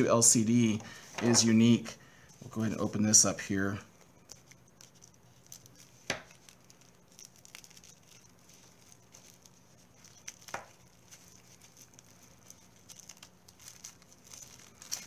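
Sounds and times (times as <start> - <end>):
plastic bag crinkling: 2.5 - 15.0.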